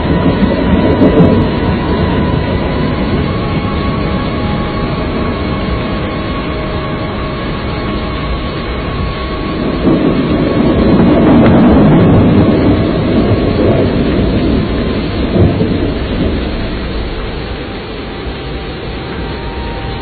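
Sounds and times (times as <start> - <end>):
steady rain: 0.0 - 20.0
thunder rolling: 0.0 - 20.0.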